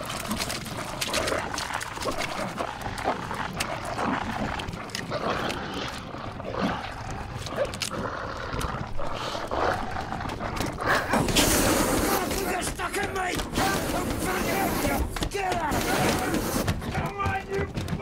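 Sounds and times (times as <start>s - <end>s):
animal growling and snarling: 0.0s - 18.0s.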